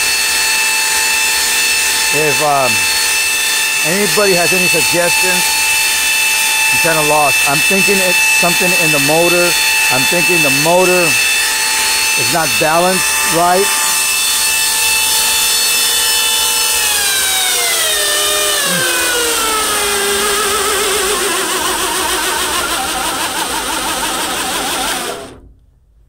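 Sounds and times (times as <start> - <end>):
electric motor whining: 0.0 - 25.4.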